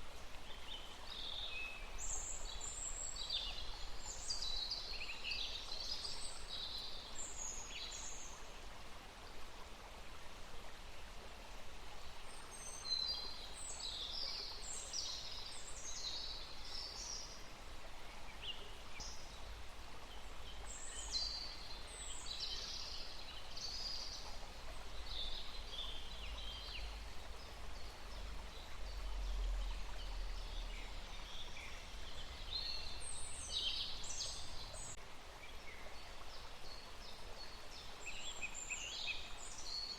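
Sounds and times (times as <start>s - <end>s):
faint outdoor hiss: 0.0s - 39.9s.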